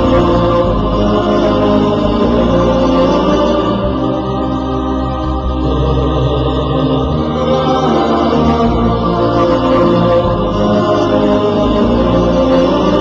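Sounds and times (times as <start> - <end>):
layered chant-like voices: 0.0 - 13.0.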